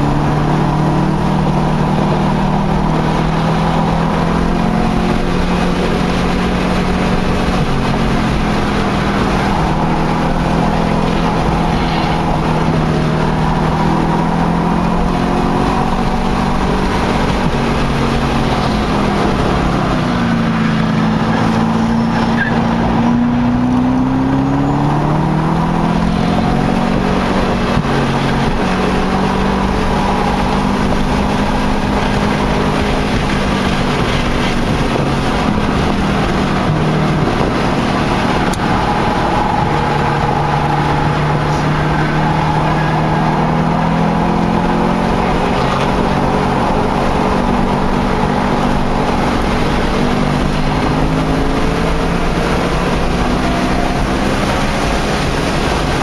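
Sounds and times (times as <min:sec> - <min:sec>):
car engine revving: 0:00.0 - 0:56.0
wind and road noise: 0:00.0 - 0:56.0.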